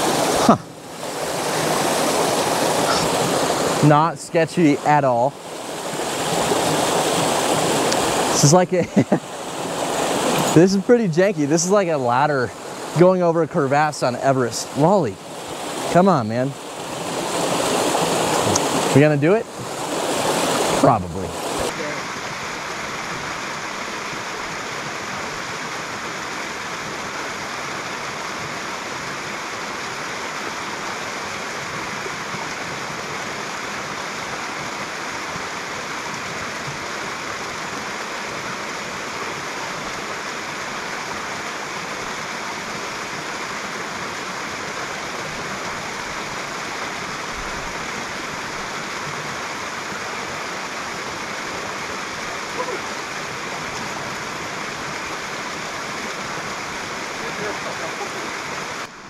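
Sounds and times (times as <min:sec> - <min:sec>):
mountain creek rushing: 0:00.0 - 0:59.0.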